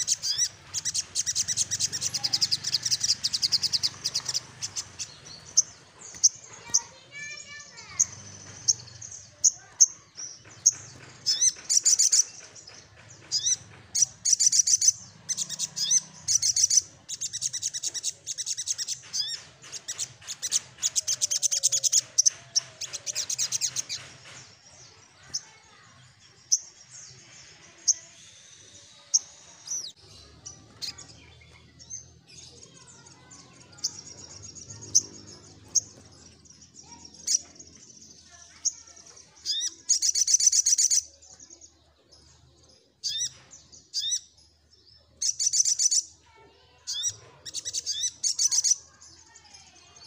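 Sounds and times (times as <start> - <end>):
sunbird trilling and chipping: 0.0 - 50.0.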